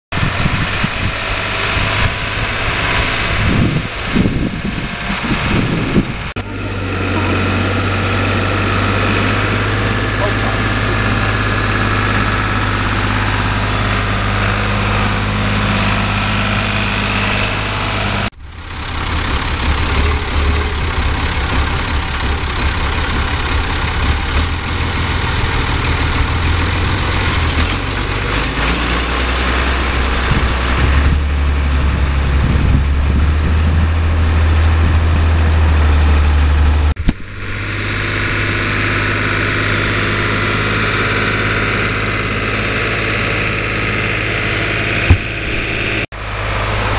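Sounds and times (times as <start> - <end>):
tractor diesel engine running: 0.1 - 46.9.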